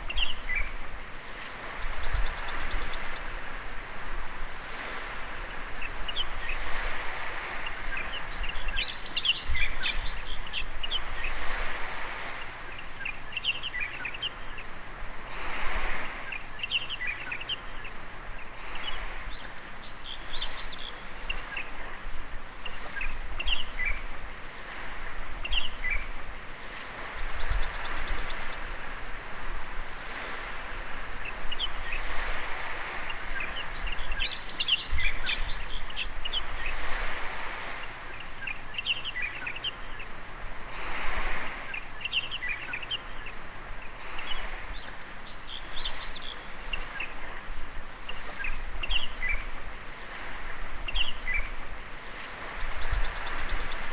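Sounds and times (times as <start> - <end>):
small birds chirping: 0.0 - 4.0, 4.8 - 14.8, 15.8 - 22.0, 22.6 - 29.3, 30.0 - 40.3, 41.0 - 53.9
gentle waves on a beach: 0.0 - 53.9.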